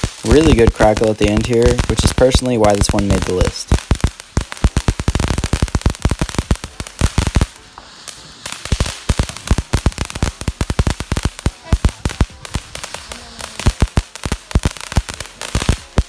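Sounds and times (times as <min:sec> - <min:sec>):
firework crackling pops: 0:00.0 - 0:16.0.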